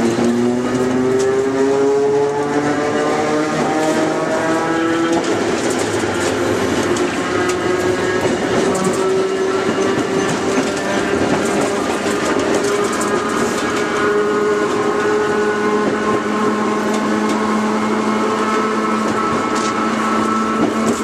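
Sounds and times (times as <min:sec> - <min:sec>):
electric train motors whining: 0:00.0 - 0:21.0
wheels clacking over rail joints: 0:00.0 - 0:21.0.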